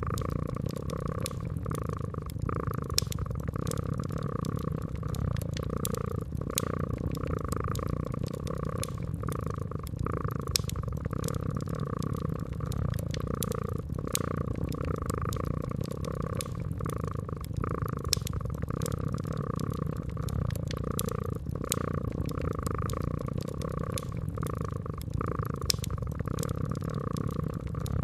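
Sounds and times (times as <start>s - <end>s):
cat purring: 0.0s - 28.0s
fireplace crackles: 0.0s - 28.0s.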